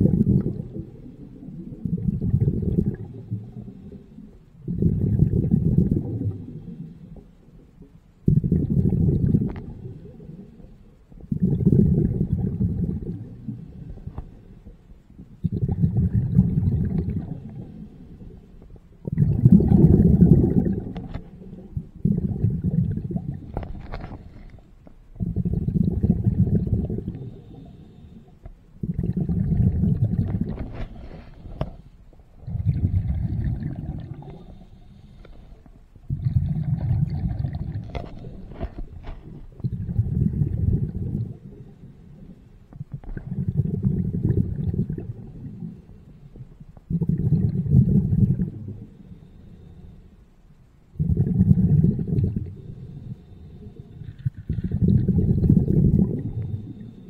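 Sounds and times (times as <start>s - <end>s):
diver's exhaled bubbles rumbling: 0.0s - 28.1s, 28.8s - 49.0s, 50.9s - 57.0s.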